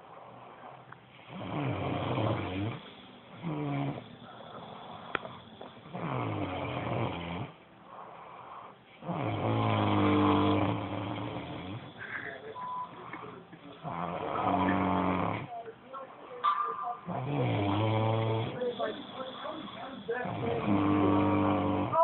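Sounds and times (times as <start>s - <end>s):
rasping snores: 1.2s - 7.6s, 9.0s - 15.6s, 17.1s - 22.0s.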